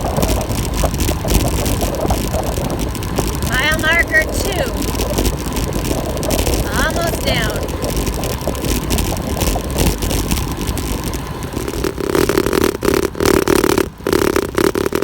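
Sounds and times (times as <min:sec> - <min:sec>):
road rumble: 0:00.0 - 0:15.0
steady hum: 0:00.0 - 0:15.0
wind buffeting microphone: 0:00.0 - 0:15.0.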